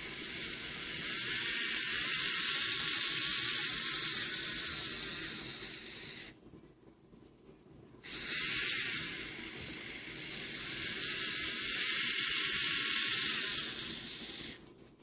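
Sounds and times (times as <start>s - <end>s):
small electric motor whine: 0.0s - 6.4s, 8.0s - 14.9s.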